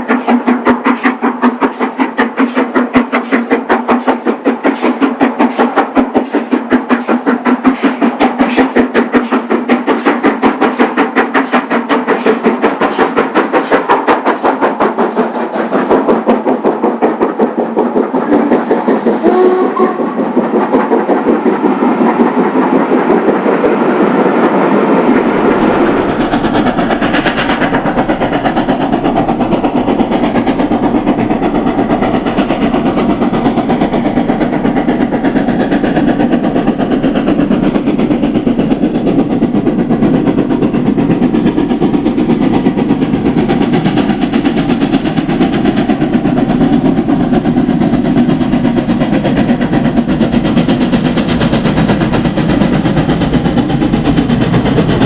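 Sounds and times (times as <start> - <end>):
steam locomotive exhaust: 0.0 - 55.0
train rolling: 0.0 - 55.0.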